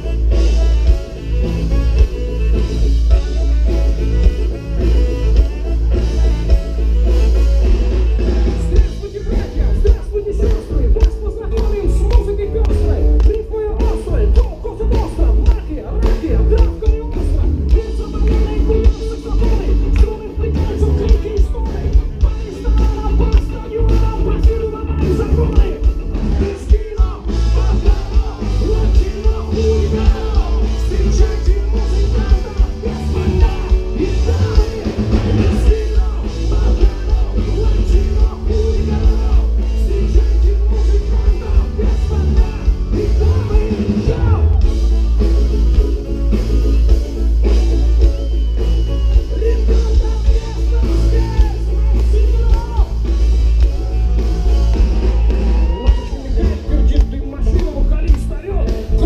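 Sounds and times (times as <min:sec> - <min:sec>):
heavy bass: 0:00.0 - 0:59.0
live band playing: 0:00.0 - 0:59.0.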